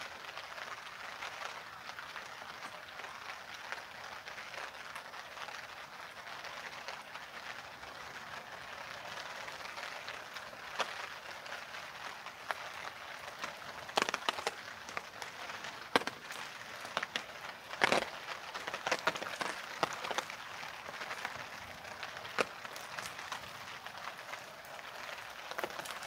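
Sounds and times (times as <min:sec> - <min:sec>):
steady rain falling: 0:00.0 - 0:26.0
heavy raindrop taps: 0:00.3 - 0:26.0.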